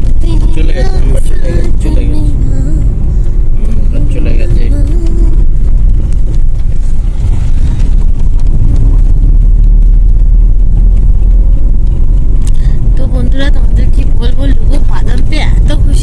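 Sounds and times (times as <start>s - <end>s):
vehicle road rumble: 0.0s - 16.0s
wind buffeting microphone: 0.0s - 16.0s.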